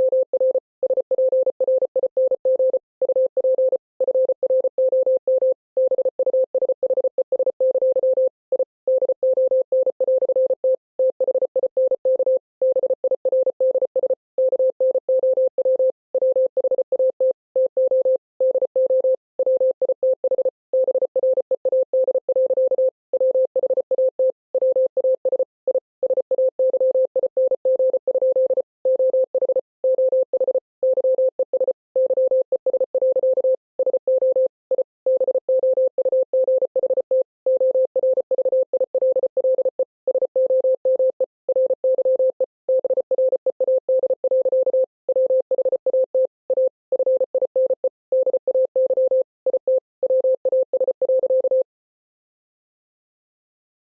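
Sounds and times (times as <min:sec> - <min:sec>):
morse code beeps: 0:00.0 - 0:51.7.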